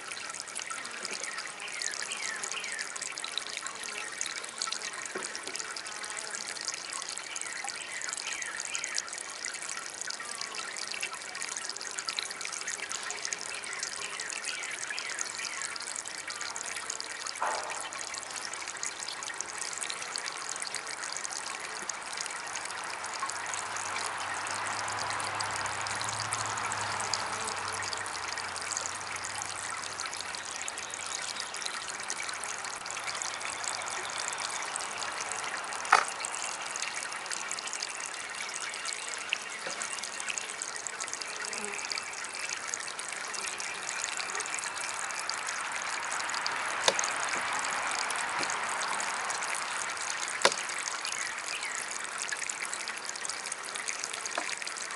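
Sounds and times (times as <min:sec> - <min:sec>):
fountain trickling and splashing: 0:00.0 - 0:54.9.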